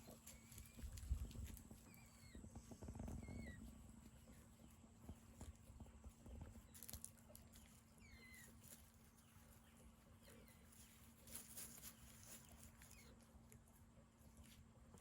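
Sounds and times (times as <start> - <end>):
soft bird chirps: 0.0 - 13.3
low steady hum: 0.0 - 15.0.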